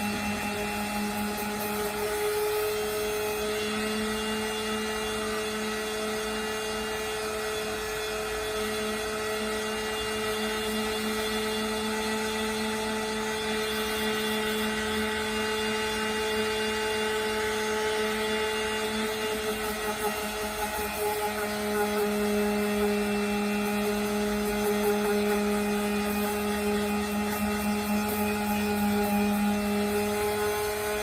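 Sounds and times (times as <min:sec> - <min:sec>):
power sander running: 0:00.0 - 0:31.0.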